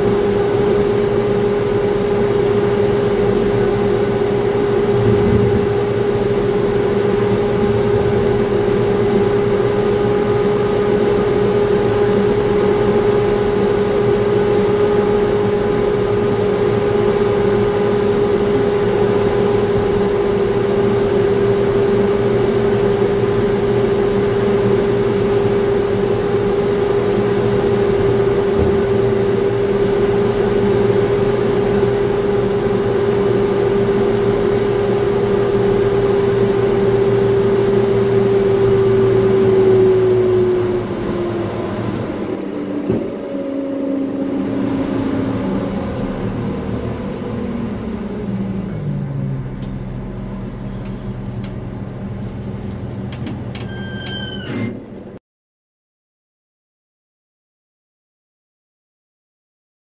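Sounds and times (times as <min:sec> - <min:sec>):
tow tractor drone: 0:00.0 - 0:55.2.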